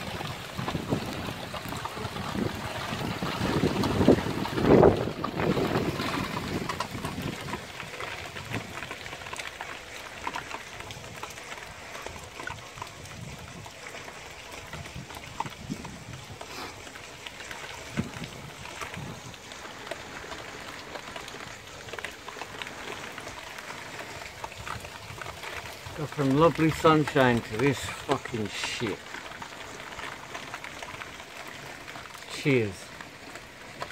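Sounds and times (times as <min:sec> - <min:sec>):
heavy rain falling: 0:00.0 - 0:33.9
raindrop ticks: 0:00.0 - 0:33.9.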